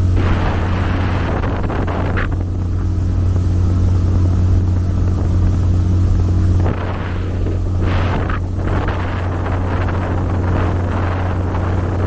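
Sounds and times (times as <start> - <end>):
boat engine droning: 0.0 - 12.0
wind on microphone: 0.0 - 12.0.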